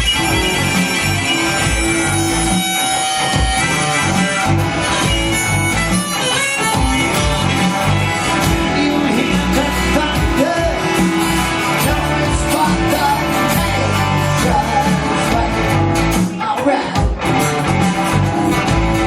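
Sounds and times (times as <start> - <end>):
band music with guitar: 0.0 - 19.0.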